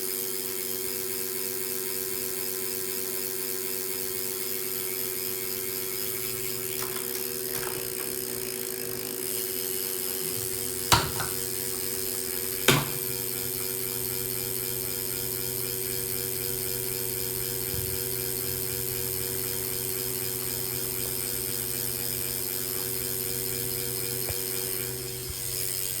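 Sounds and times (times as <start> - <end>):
bike trainer humming: 3.3 - 26.0.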